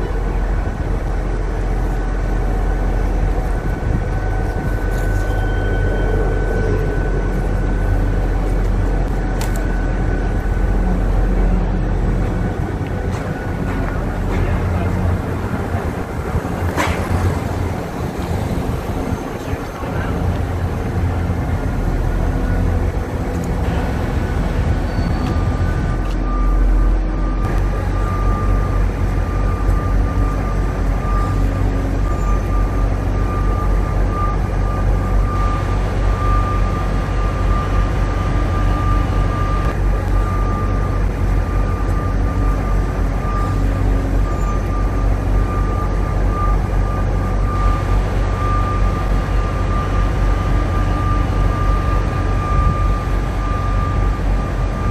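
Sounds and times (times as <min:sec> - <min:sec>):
diesel machinery rumbling: 0:00.0 - 0:54.9
high steady whine: 0:00.0 - 0:54.9.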